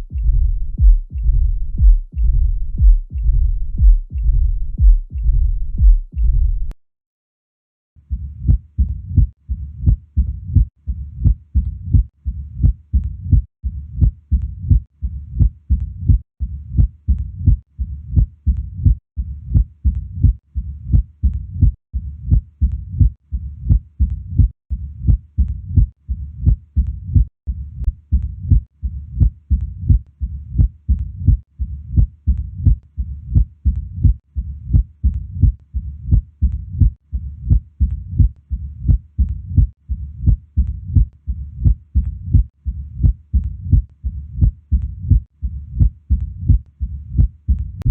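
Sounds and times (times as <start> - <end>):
heartbeat through stethoscope: 0.0 - 6.8, 8.1 - 47.9.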